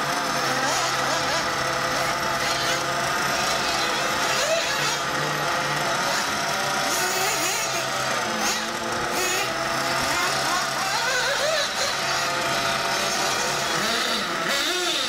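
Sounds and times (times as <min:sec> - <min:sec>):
rc buggy engine revving: 0:00.0 - 0:15.0.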